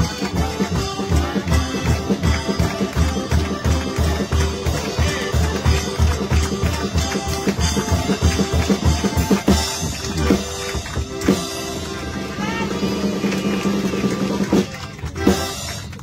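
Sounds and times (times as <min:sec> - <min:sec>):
button accordion: 0:00.0 - 0:15.8.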